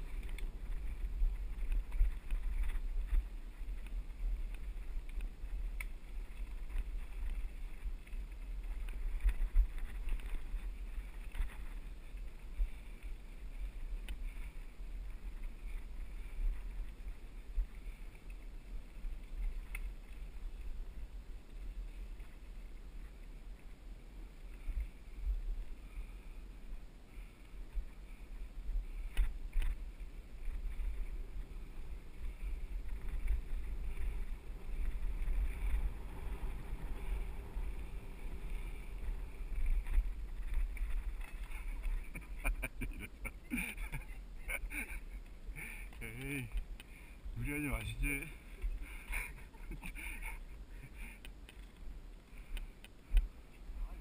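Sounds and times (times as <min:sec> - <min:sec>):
tyre noise on dirt: 0:00.0 - 0:25.8, 0:27.5 - 0:54.0
bike rattling: 0:00.0 - 0:26.6, 0:27.2 - 0:53.7
deep wind rumble: 0:00.0 - 0:54.0.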